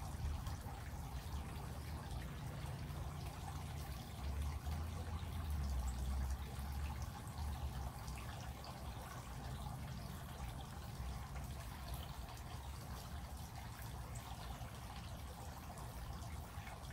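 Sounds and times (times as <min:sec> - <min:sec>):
water dripping and trickling: 0:00.0 - 0:16.9.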